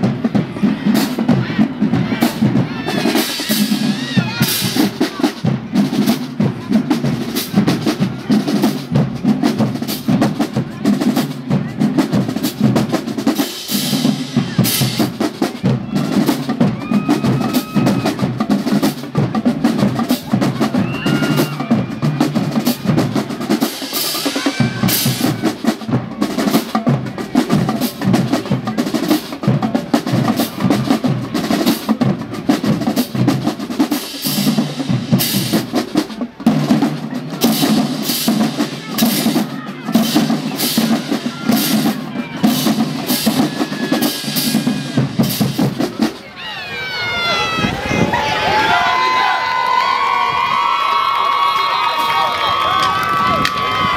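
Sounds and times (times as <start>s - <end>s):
marching drumline playing: 0.0s - 49.8s.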